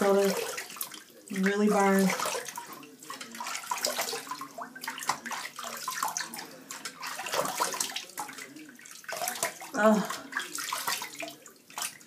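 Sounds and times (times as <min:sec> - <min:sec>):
running tap: 0:00.0 - 0:12.0
water splashing in a sink: 0:00.0 - 0:12.0.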